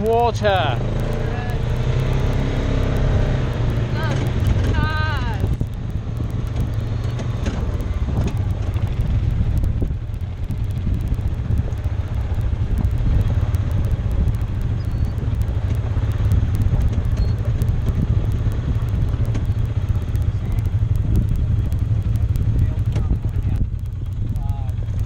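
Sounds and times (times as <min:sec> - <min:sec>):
utility vehicle engine running: 0:00.0 - 0:25.0
vehicle rumbling over ground: 0:00.0 - 0:25.0.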